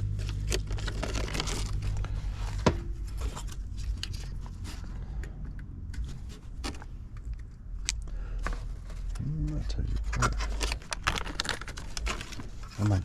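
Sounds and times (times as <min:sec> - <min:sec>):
handling clicks and scrapes: 0:00.0 - 0:13.0
low steady hum: 0:00.0 - 0:13.0.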